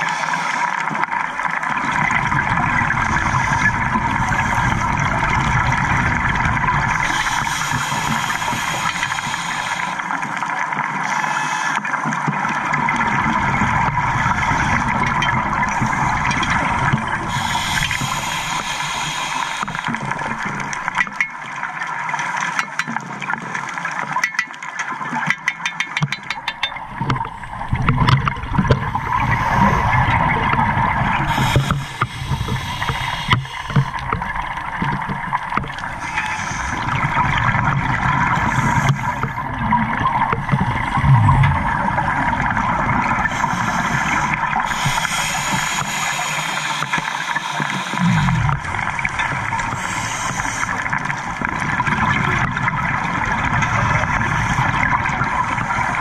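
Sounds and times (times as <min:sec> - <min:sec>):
underwater bubbles gurgling: 0:00.0 - 0:56.0
water hiss and crackle: 0:00.0 - 0:56.0.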